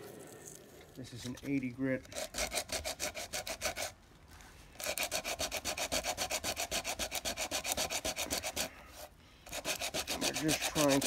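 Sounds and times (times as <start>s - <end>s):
sandpaper rubbing on plastic: 2.0s - 11.0s.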